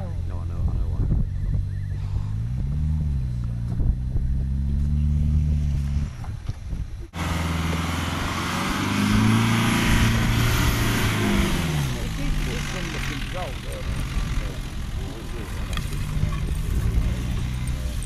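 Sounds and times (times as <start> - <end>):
engine revving: 0.0 - 6.4, 7.1 - 18.0.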